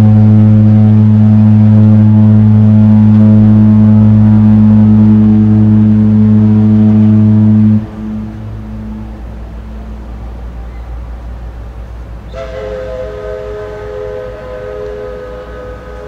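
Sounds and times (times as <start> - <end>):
ship horn long low blast: 0.0 - 10.4, 11.8 - 16.0.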